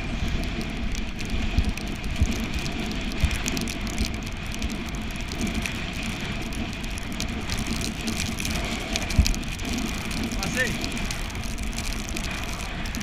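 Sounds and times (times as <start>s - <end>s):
bicycle tyres on wet road: 0.0s - 13.0s
rain: 0.0s - 13.0s.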